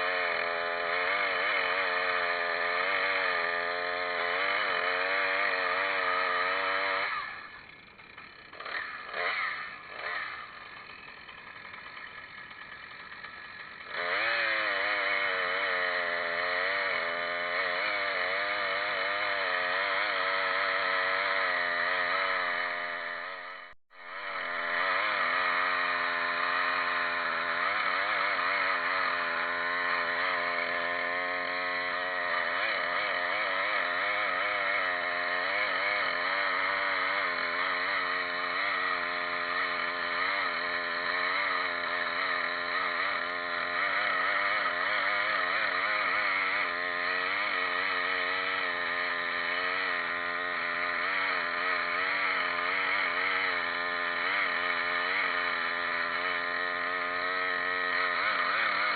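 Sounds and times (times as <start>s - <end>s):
chainsaw running: 0.0s - 58.9s.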